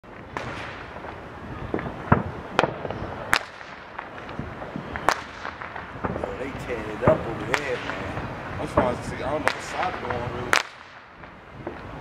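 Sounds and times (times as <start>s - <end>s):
fireworks bangs: 0.0s - 12.0s
steady background noise: 0.0s - 12.0s.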